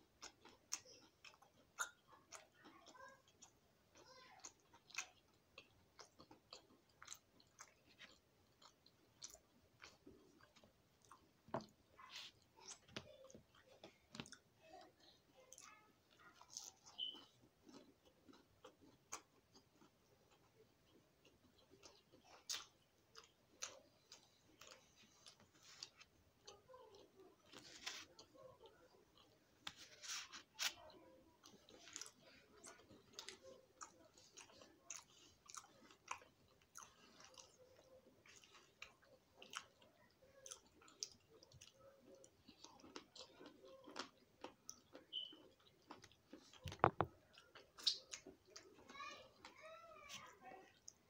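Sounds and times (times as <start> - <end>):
chewing and mouth smacks: 0.0 - 49.5.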